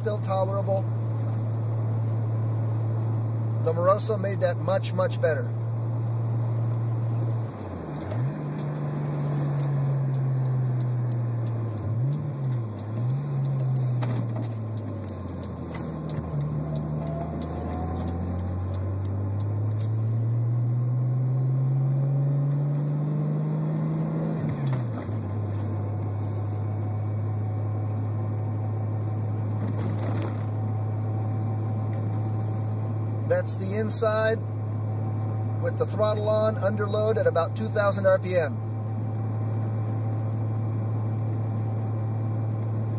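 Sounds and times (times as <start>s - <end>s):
car engine from inside cabin: 0.0s - 42.9s.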